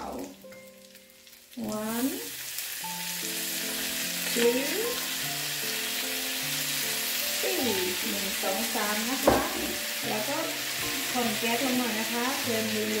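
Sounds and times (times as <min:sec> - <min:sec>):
pork sizzling in a wok: 0:00.0 - 0:13.0.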